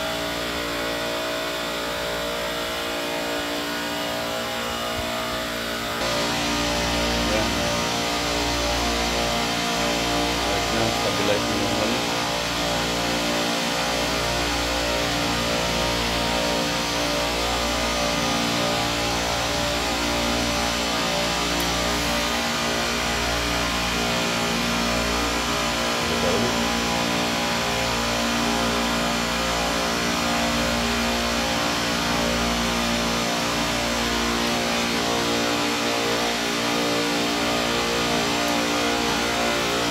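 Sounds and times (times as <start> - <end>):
refrigeration compressor humming: 0.0 - 39.9.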